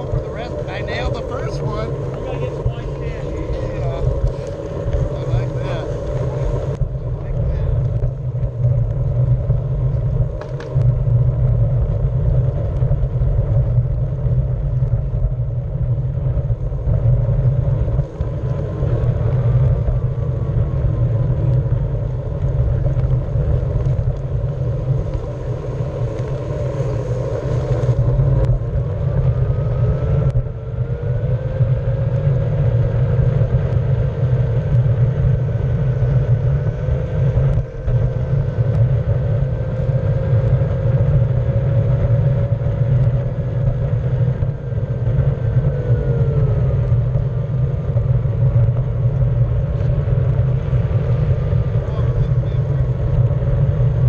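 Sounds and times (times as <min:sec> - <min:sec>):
electric motor whine: 0:00.0 - 0:13.5, 0:16.2 - 0:54.0
board tyre rumbling on concrete: 0:00.0 - 0:54.0.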